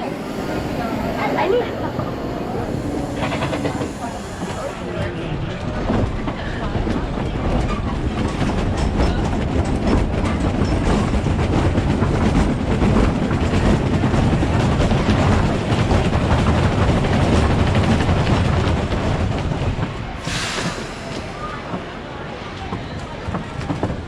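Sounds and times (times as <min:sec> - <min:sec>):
roller coaster rumbling on track: 0:00.0 - 0:24.0.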